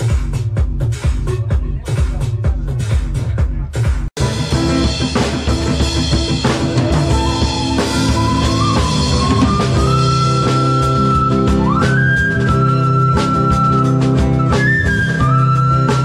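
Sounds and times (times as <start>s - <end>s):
drum beat: 0.0s - 16.0s
music with bass and high melody: 0.0s - 16.0s.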